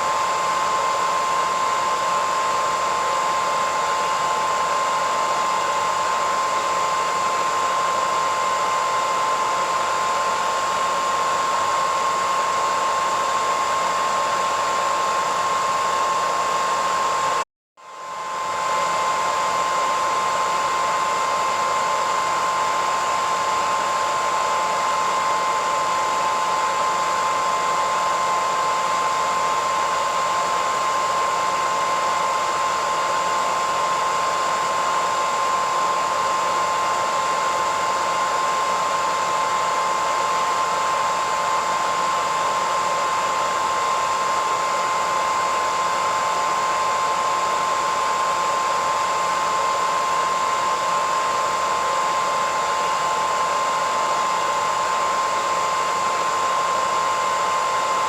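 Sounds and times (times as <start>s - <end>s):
hairdryer running: 0.0s - 58.0s.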